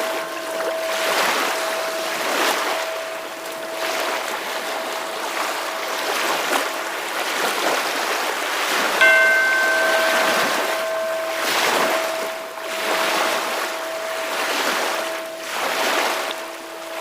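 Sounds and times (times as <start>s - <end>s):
ocean surf washing: 0.0s - 17.0s
steady ringing tone: 0.0s - 17.0s.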